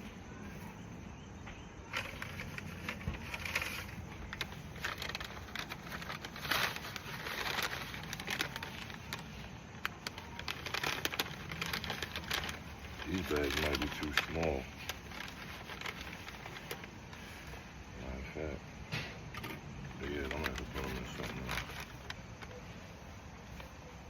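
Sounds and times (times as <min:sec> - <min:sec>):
leafy branches rustling: 0:00.0 - 0:24.0.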